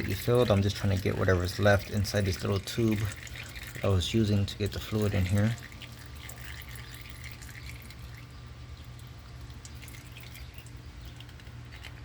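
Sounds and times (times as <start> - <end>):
oil dripping: 0.0 - 12.0
steady low hum: 0.0 - 12.0.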